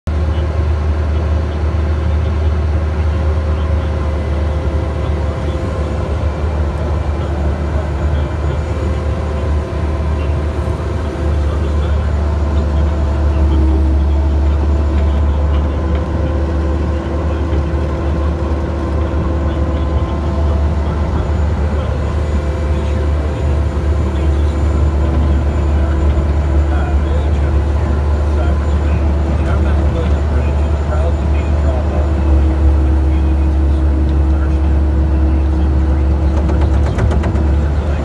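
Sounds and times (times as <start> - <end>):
engine low hum: 0.0 - 38.0.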